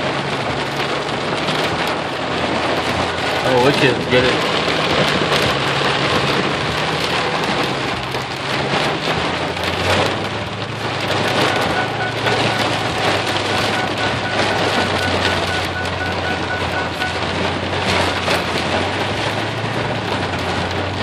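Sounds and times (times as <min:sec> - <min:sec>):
heavy rain drumming on vehicle roof: 0:00.0 - 0:21.0.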